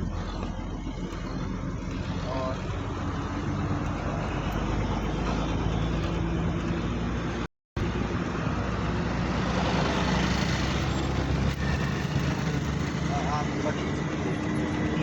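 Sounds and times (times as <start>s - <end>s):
traffic engines running: 0.0s - 15.0s.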